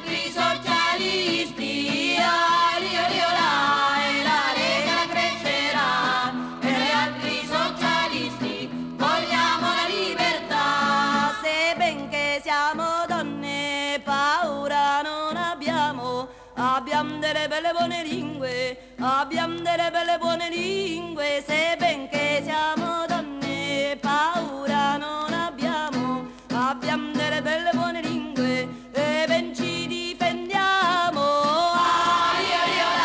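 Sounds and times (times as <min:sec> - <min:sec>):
voices singing folk song: 0:00.0 - 0:33.0.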